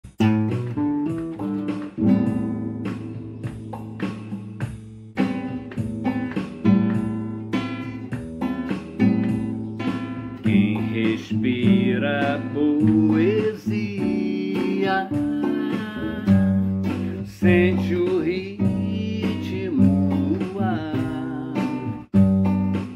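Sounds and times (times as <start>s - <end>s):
strummed acoustic guitar: 0.0s - 22.9s.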